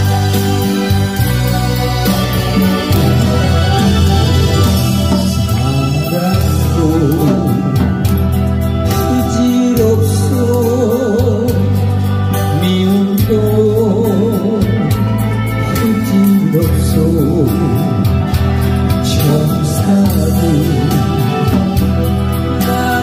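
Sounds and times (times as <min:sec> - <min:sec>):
instrumental accompaniment with beat: 0:00.0 - 0:23.0
man singing with vibrato: 0:02.2 - 0:08.1, 0:08.9 - 0:18.3, 0:19.0 - 0:23.0.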